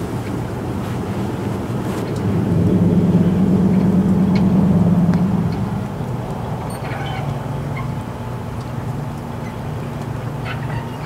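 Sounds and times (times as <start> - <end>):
truck engine running: 0.5 - 9.4.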